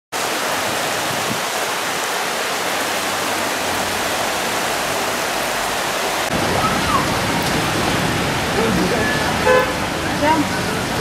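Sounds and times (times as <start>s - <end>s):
heavy rain hissing: 0.2s - 11.0s.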